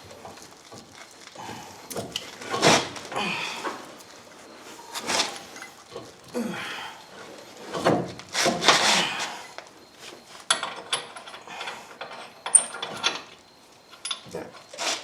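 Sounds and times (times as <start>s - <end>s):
metal parts scraping and clunking: 0.2s - 6.2s, 7.2s - 15.0s.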